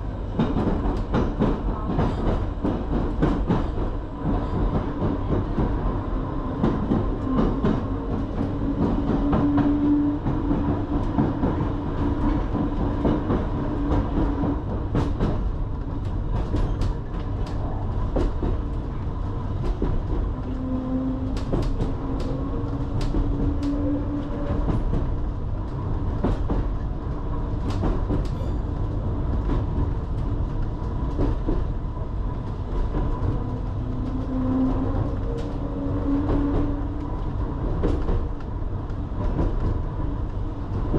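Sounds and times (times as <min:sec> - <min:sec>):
train rumble inside carriage: 0:00.0 - 0:40.9.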